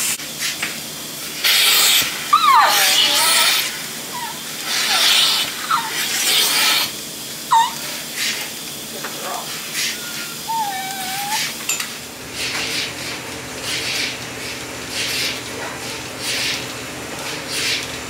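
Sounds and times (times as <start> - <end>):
milking pulsators hissing: 0.0 - 18.0
vacuum system hum: 0.0 - 18.0.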